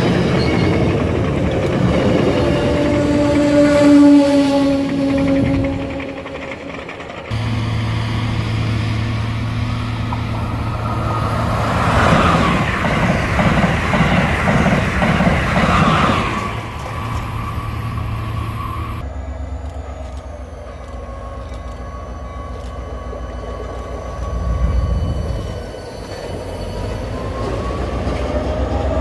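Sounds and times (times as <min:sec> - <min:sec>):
diesel locomotives rumbling: 0:00.0 - 0:29.0
high-speed train passing: 0:00.0 - 0:29.0
rhythmic thumps of train cars: 0:00.0 - 0:29.0.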